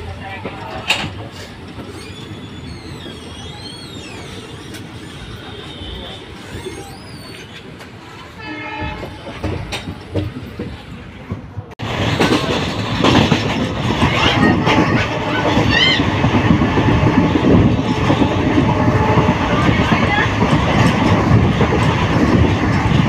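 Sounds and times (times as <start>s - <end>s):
train rumble from on board: 0.0s - 23.0s.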